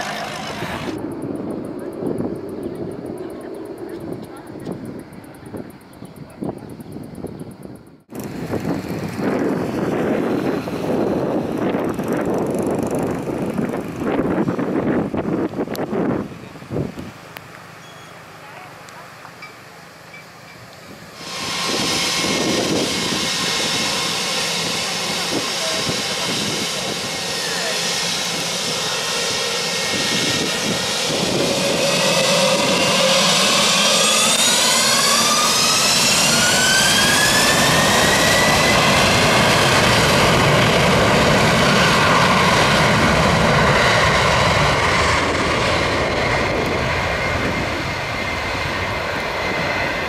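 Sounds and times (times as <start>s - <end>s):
wind buffeting microphone: 0.0s - 17.3s, 20.8s - 50.0s
distant jet engines rumbling: 0.0s - 50.0s.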